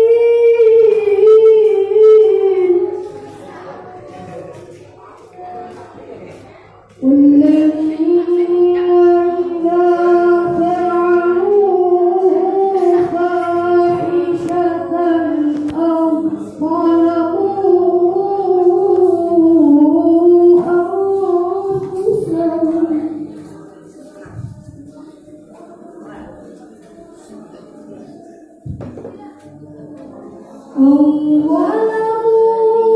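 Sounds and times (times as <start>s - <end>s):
boy reciting melodically: 0.0s - 32.9s.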